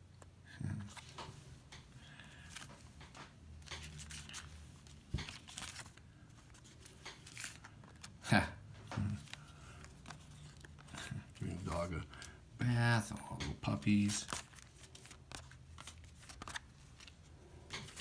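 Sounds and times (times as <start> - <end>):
paper rustling: 2.0 - 8.2, 8.8 - 12.4, 13.4 - 18.0.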